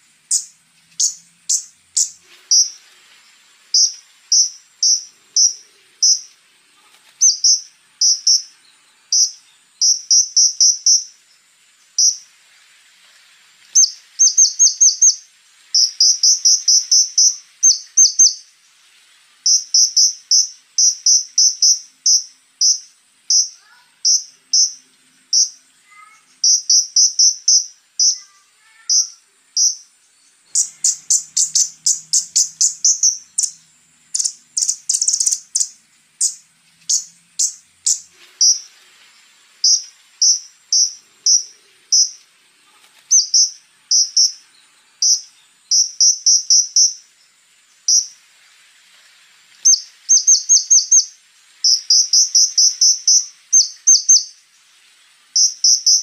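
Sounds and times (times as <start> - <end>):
faint high buzz: 0.0 - 56.0
songbird singing sharp notes: 0.3 - 2.8, 3.7 - 6.4, 7.2 - 12.3, 13.7 - 18.5, 19.5 - 38.7, 39.6 - 42.3, 43.1 - 47.1, 47.8 - 48.2, 49.7 - 54.4, 55.4 - 56.0.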